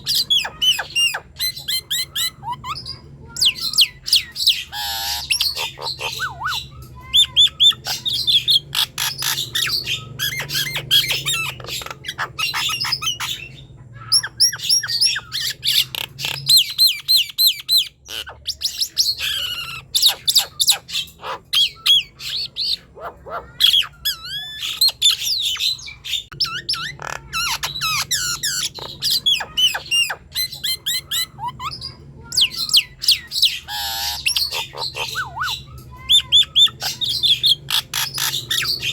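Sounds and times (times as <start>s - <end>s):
myna whistling and squawking: 0.0s - 38.9s.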